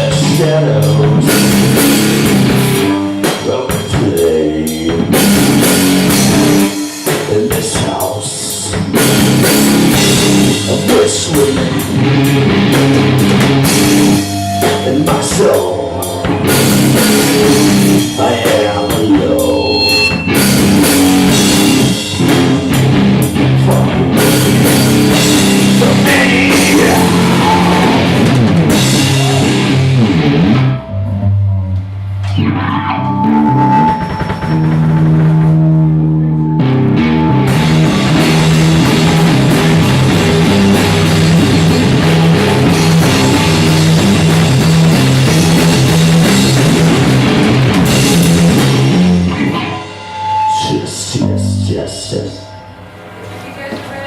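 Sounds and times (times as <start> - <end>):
loud rock music: 0.0 - 52.9.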